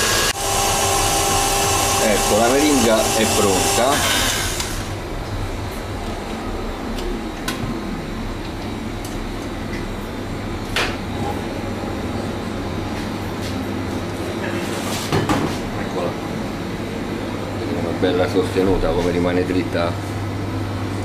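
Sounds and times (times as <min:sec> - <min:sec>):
steady low hum: 0:01.1 - 0:21.0.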